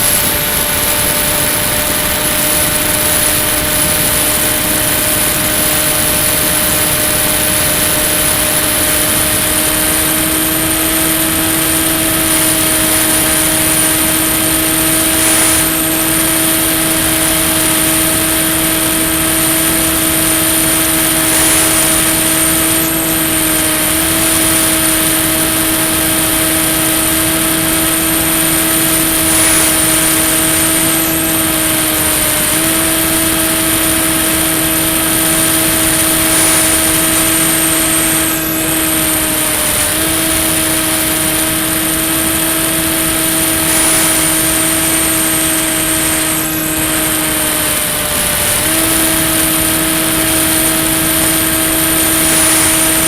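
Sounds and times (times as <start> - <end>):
model plane motor and propeller: 0.0 - 53.0
thin high whine: 0.0 - 53.0.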